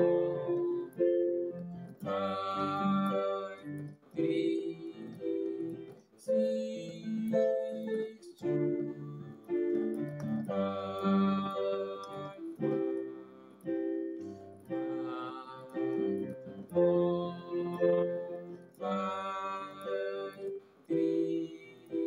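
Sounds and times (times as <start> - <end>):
electronic keyboard chords: 0.0 - 22.0.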